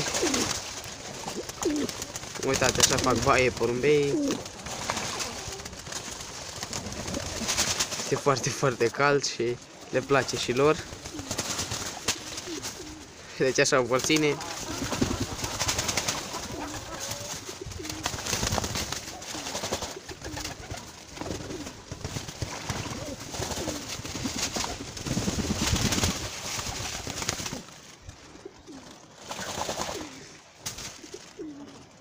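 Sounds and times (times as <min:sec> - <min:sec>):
pigeons cooing: 0:00.0 - 0:25.0, 0:28.3 - 0:32.0
wings flapping: 0:00.0 - 0:32.0.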